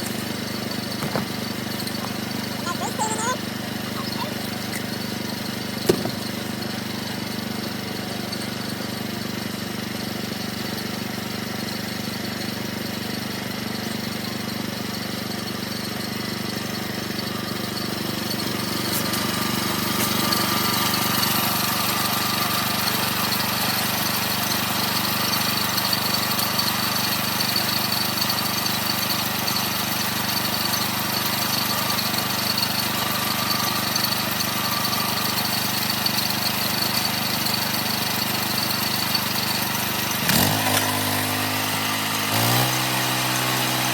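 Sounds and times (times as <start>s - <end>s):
saw hissing whine cutting log: 0.0s - 43.9s
small sawmill engine running: 0.0s - 43.9s.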